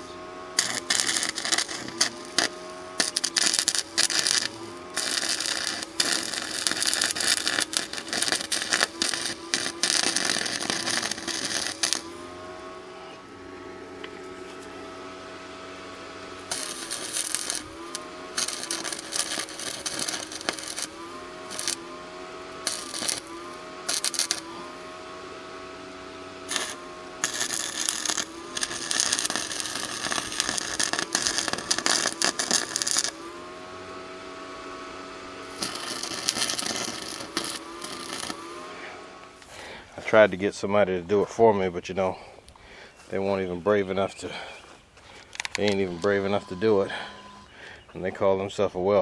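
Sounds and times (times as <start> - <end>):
welder steady whine: 0.0 - 49.0
welding arc crackling and sizzling: 0.0 - 49.0.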